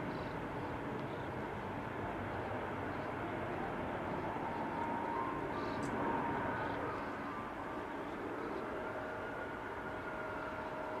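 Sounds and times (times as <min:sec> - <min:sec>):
distant jet engines: 0:00.0 - 0:11.0
faint whining tones: 0:00.0 - 0:11.0.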